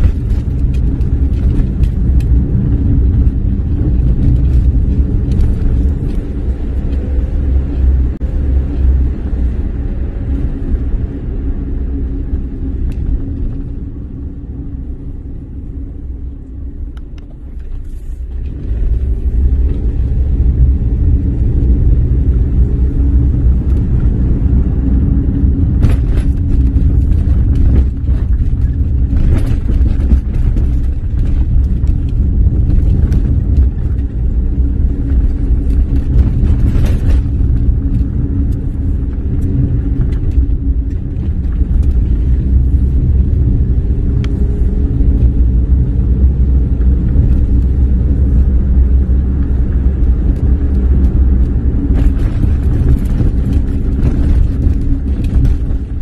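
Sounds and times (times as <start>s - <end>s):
car engine: 0.0s - 56.0s
road rumble inside car: 0.0s - 56.0s.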